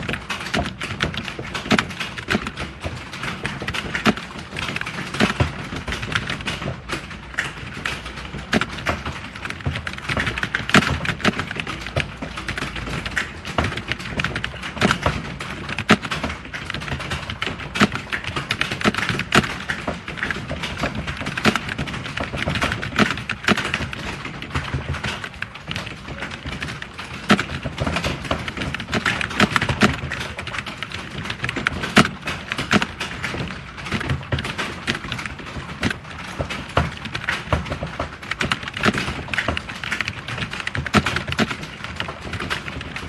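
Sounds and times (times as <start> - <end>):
fast typing on keyboard: 0.0 - 43.0.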